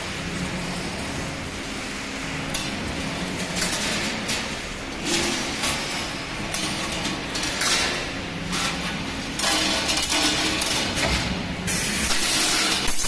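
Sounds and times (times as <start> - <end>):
wire bending machine running: 0.0 - 13.0.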